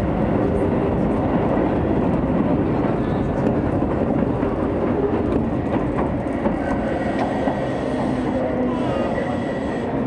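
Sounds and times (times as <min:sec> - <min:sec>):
steady train rumble: 0:00.0 - 0:10.0
train wheels clattering on rails: 0:00.0 - 0:10.0.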